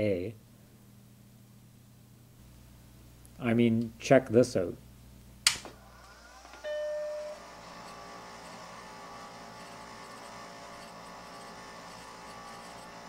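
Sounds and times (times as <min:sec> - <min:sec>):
computer blower fan humming: 0:00.0 - 0:13.0.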